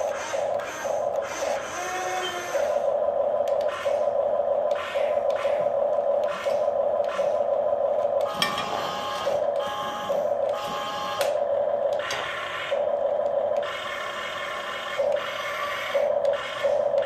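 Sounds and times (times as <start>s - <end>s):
toy excavator whirring: 0.0s - 7.5s, 8.2s - 12.9s, 13.6s - 17.0s.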